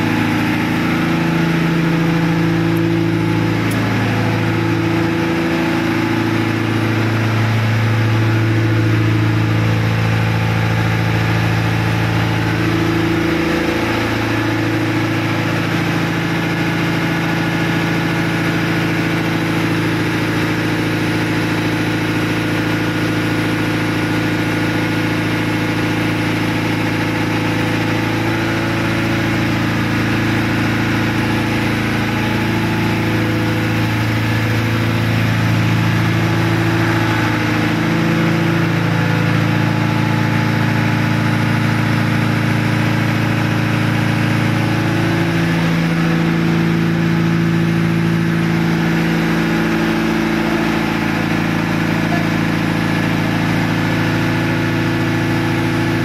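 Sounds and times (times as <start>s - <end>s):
marine diesel engine drone: 0.0s - 56.0s.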